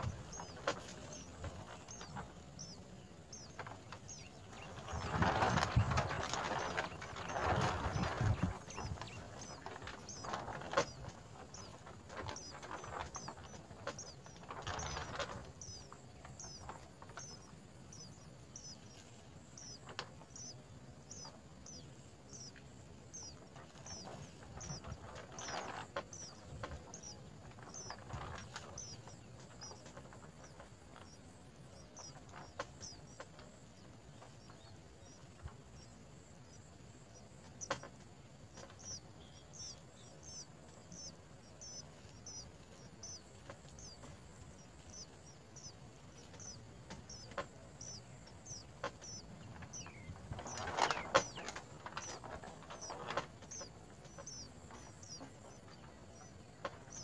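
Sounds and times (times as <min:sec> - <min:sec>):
small bird high chirps: 0:00.0 - 0:57.0
soft rustling: 0:00.0 - 0:57.0.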